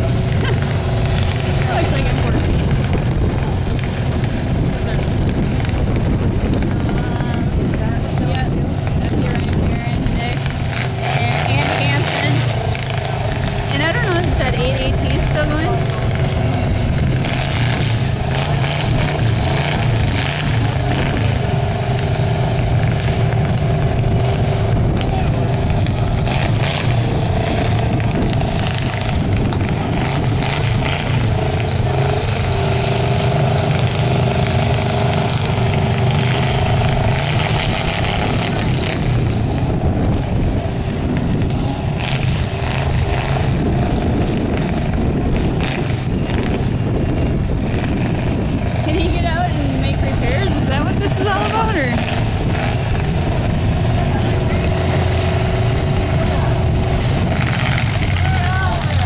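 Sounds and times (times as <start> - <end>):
car engines running hard: 0.0 - 59.0.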